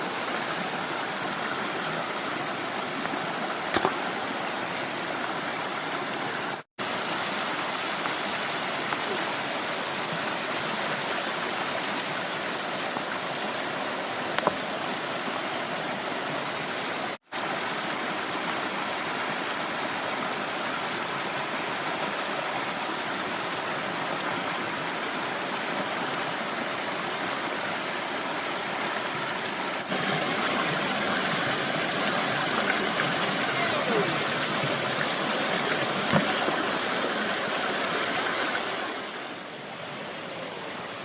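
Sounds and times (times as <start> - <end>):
stream water flowing: 0.0 - 41.0.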